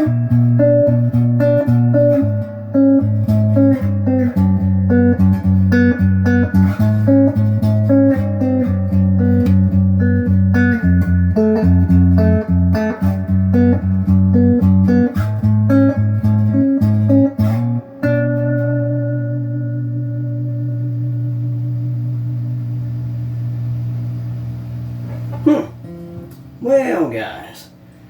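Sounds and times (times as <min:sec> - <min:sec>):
electric guitar chord ringing: 0:00.0 - 0:26.6
electric guitar riff: 0:00.0 - 0:26.8.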